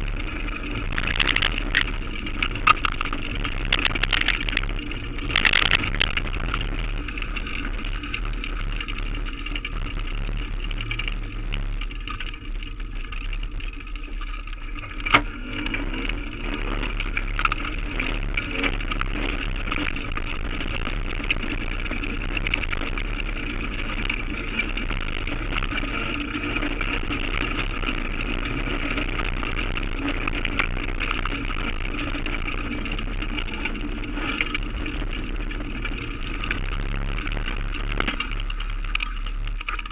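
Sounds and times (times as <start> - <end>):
bicycle rattling over paving: 0.0 - 39.9.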